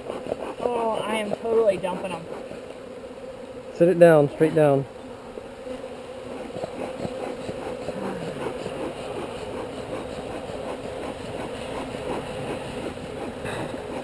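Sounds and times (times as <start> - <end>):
bees buzzing: 0.0 - 14.0
individual bees flying by: 0.0 - 14.0.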